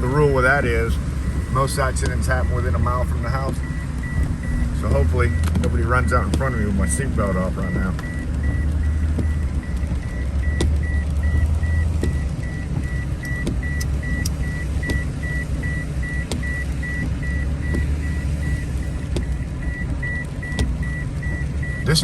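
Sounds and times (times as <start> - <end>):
car engine and road rumble: 0.0 - 22.0
seatbelt warning beeps: 0.0 - 22.0.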